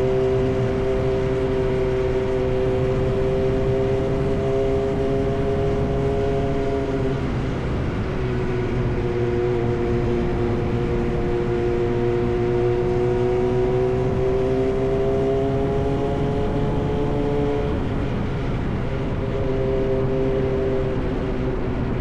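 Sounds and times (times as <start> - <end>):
sport motorcycle engine cruising: 0.0 - 22.0.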